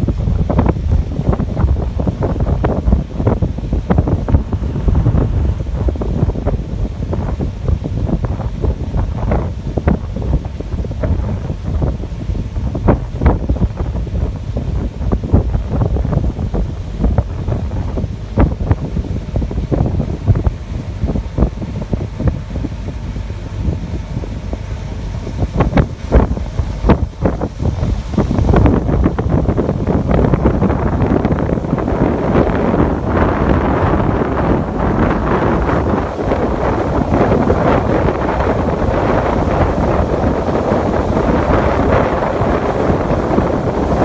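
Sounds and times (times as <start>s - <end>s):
ship wash through water: 0.0s - 44.0s
wind buffeting microphone: 0.0s - 44.0s.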